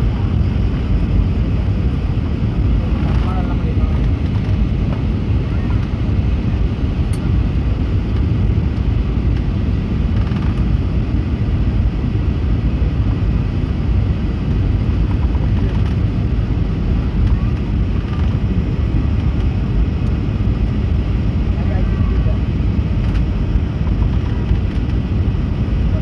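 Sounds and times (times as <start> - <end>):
airplane cabin engine noise: 0.0 - 26.0.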